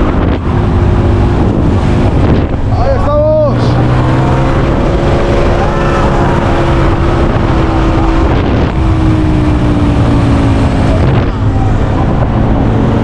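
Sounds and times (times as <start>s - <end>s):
ride machinery droning: 0.0s - 13.0s.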